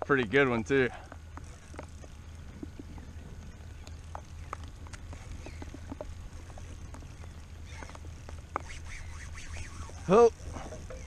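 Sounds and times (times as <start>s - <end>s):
water lapping against kayak hull: 0.0s - 11.0s
wind rumble on microphone: 0.0s - 11.0s.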